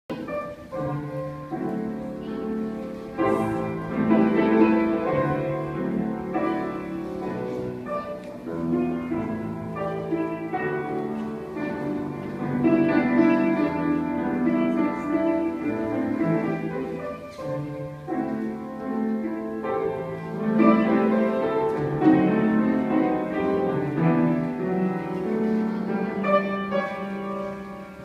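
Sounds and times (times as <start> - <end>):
slow classical instrumental music: 0.0 - 28.0.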